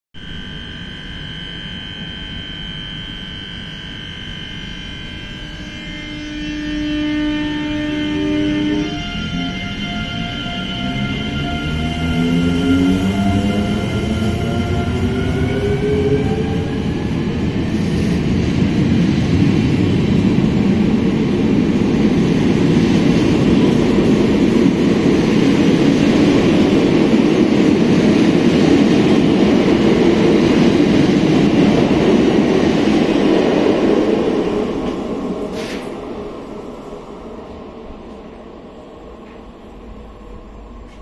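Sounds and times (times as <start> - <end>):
train wheels rumbling on rail: 8.1 - 41.0.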